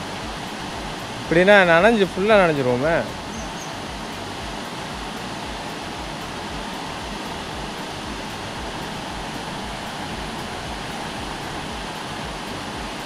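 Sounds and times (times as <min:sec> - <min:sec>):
low pulsing rumble: 0:00.0 - 0:13.0
waterfall rushing over rocks: 0:00.0 - 0:13.0.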